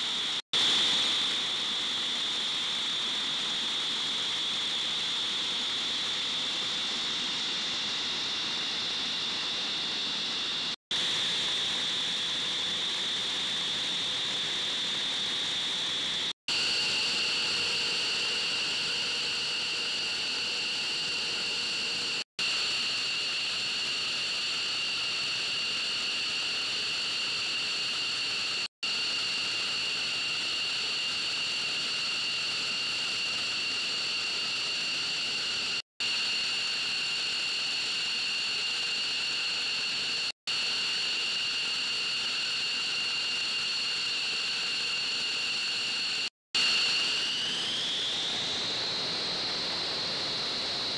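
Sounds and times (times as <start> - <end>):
jet engines idling whine: 0.0 - 50.9.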